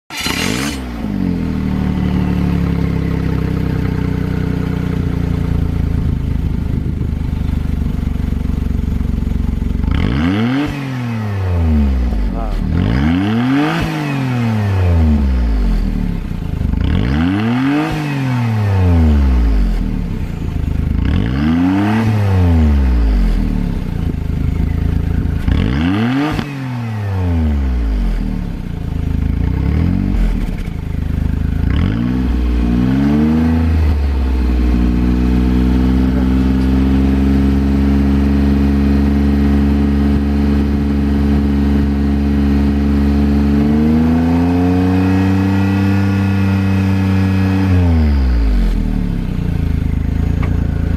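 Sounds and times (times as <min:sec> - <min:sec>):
car engine revving and idling: 0:00.1 - 0:50.9.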